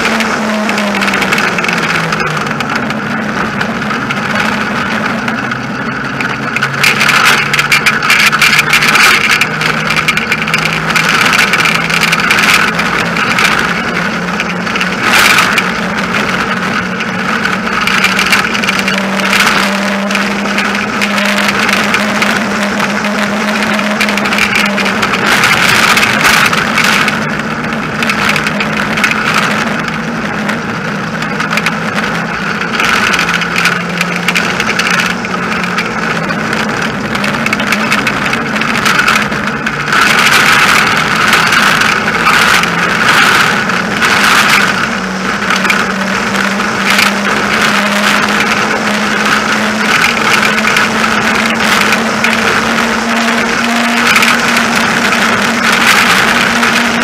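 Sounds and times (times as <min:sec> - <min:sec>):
rattles and knocks over bumps: 0:00.0 - 0:57.0
wavering low hum: 0:00.0 - 0:57.0
wheels and rushing air roar: 0:00.0 - 0:57.0.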